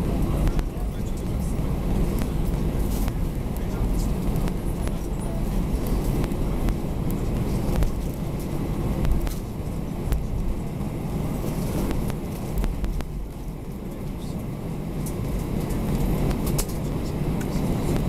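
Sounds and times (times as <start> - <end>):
aircraft cabin rumble: 0.0 - 18.0.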